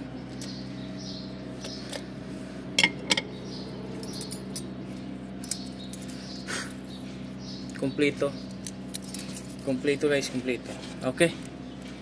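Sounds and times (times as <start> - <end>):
low hum: 0.0 - 9.7.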